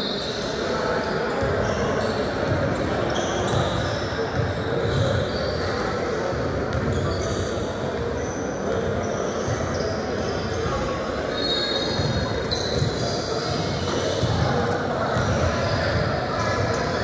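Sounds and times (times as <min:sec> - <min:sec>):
murmur of voices: 0:00.0 - 0:17.0
sneaker squeaks: 0:00.0 - 0:17.0.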